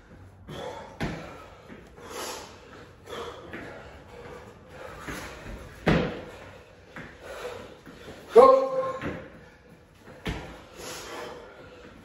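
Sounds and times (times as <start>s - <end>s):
heavy forceful breathing: 0.0s - 8.4s, 9.3s - 12.0s.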